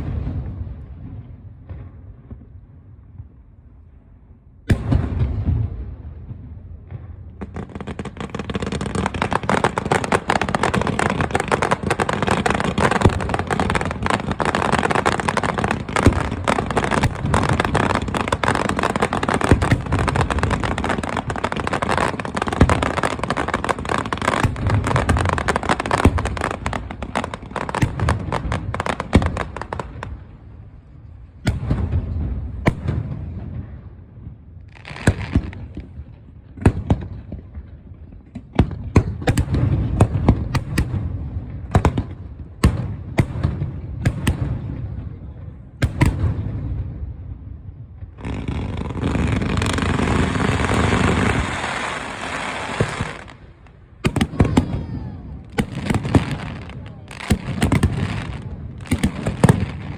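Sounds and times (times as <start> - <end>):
fireworks crackling and popping: 0.0 - 2.6, 4.6 - 59.9
firework bangs: 0.0 - 3.4, 4.6 - 59.9
deep firework booms: 0.0 - 3.5, 4.6 - 59.9.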